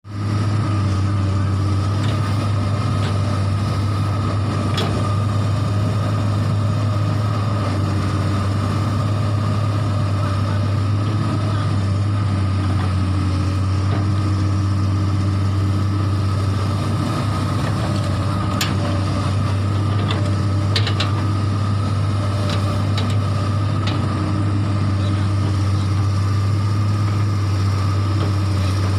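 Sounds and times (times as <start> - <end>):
excavator diesel engine running: 0.1 - 28.9.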